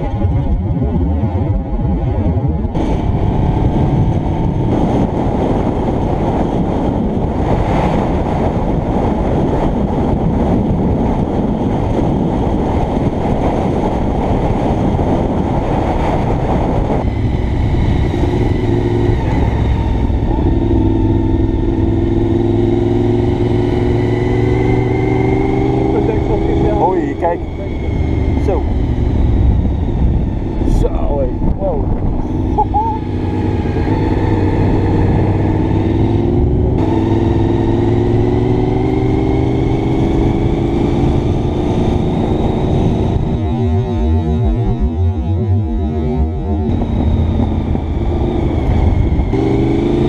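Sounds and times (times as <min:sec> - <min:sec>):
motorcycle engine: 0:00.0 - 0:50.0
wind noise: 0:00.0 - 0:50.0.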